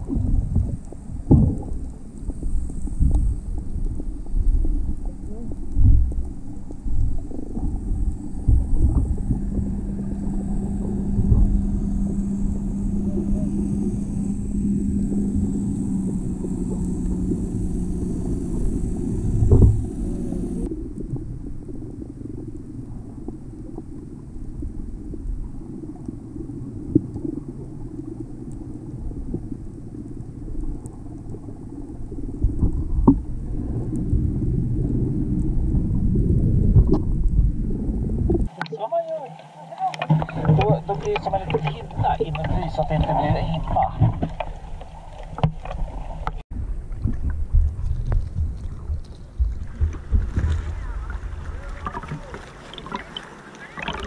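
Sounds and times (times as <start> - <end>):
steady low hum: 0.0 - 54.0
underwater water rumble: 0.0 - 54.0.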